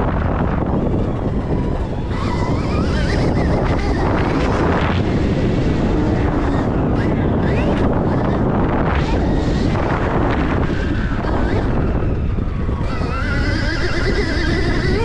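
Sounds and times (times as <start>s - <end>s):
electric motor whine: 0.0s - 15.0s
wind buffeting microphone: 0.0s - 15.0s.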